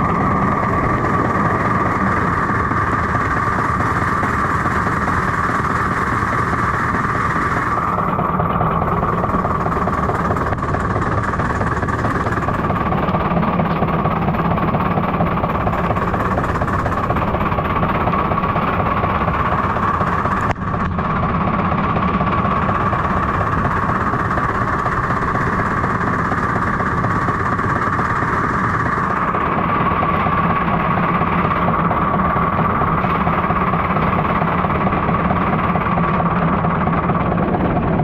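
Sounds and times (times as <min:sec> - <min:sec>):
machine running rumble: 0:00.0 - 0:38.0.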